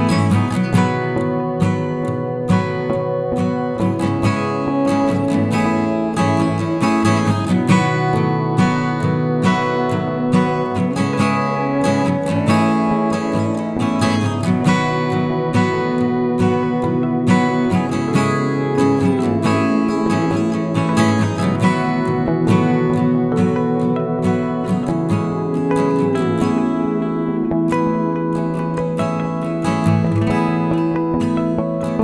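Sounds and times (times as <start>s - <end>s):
strummed acoustic guitar music: 0.0s - 32.0s.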